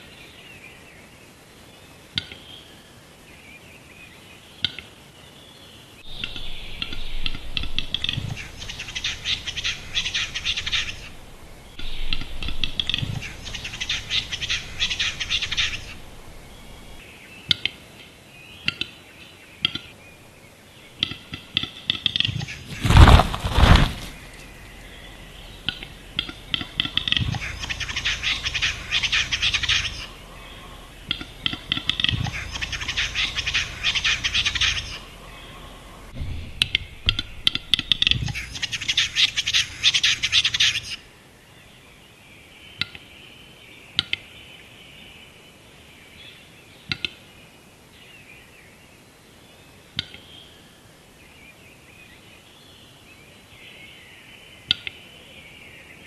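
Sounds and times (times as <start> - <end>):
small birds twittering: 0.0 - 56.0.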